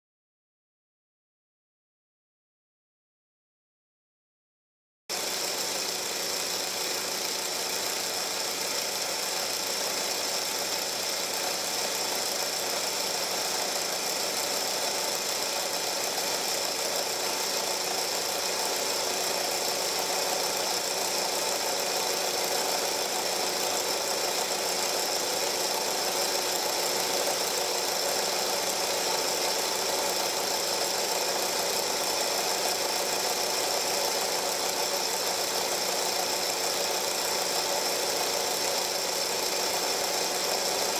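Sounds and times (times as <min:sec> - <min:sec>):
film projector running: 0:05.1 - 0:40.9.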